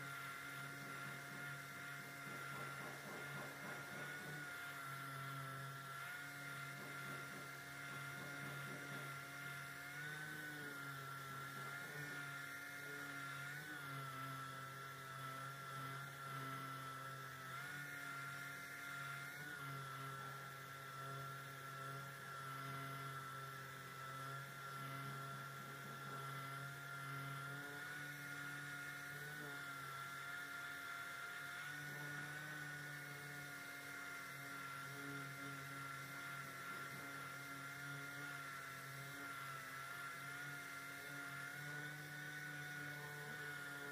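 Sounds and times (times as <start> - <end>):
orbital sander whining: 0.0 - 43.9.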